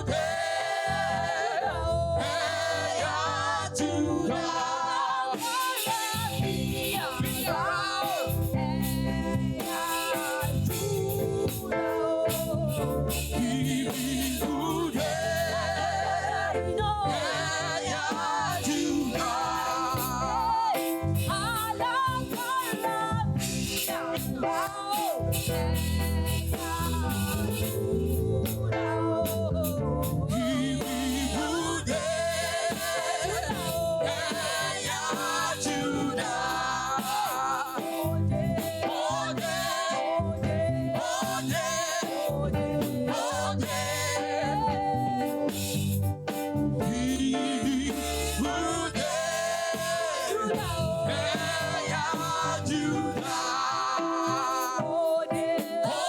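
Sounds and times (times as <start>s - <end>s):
choir singing gospel song: 0.0s - 56.0s
live band accompaniment: 4.2s - 16.8s, 17.4s - 56.0s.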